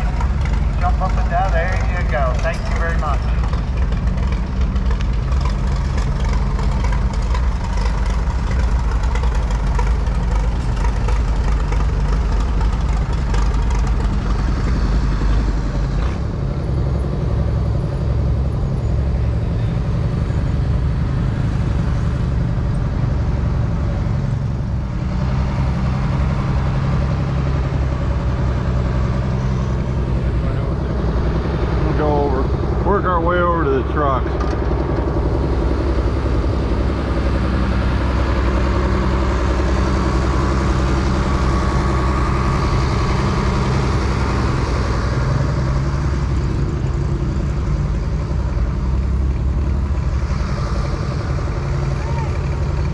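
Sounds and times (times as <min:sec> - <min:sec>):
machine engine rumbling: 0:00.0 - 0:52.9.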